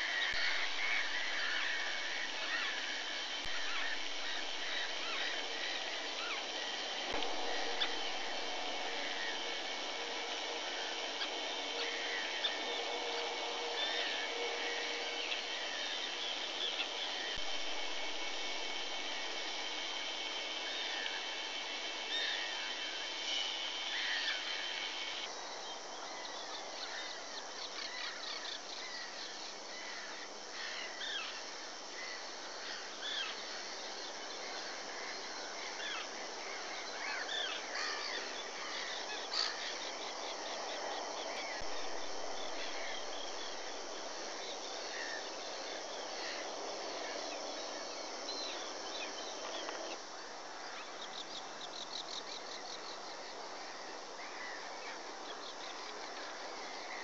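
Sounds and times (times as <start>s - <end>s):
steady hiss: 0.0s - 57.0s
terns calling: 0.0s - 57.0s.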